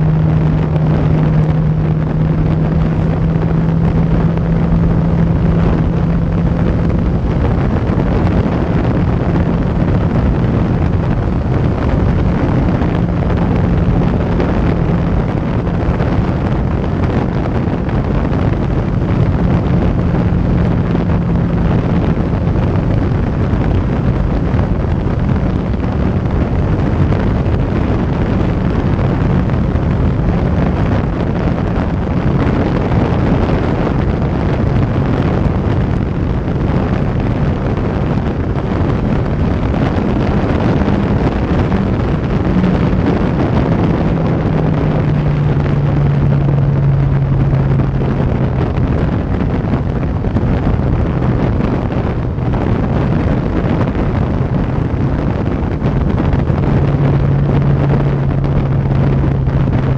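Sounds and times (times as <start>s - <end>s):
motorcycle engine hum: 0.0s - 59.9s
wind rushing over microphone: 0.0s - 59.9s.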